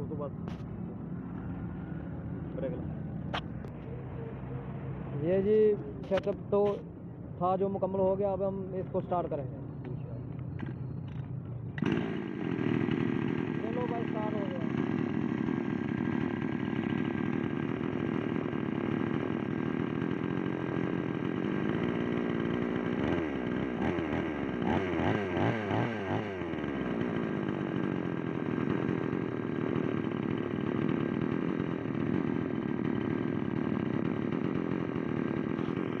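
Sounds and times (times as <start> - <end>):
chainsaw engine idling and revving: 0.0 - 6.8, 7.6 - 36.0.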